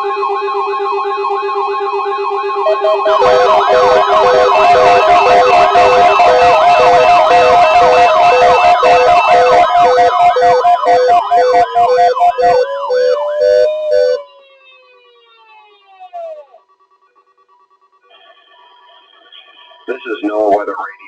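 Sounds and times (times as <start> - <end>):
siren sliding down in pitch: 0.0 - 17.2
sirens yelping: 0.0 - 17.3
pulsing alarm tones: 0.0 - 20.1.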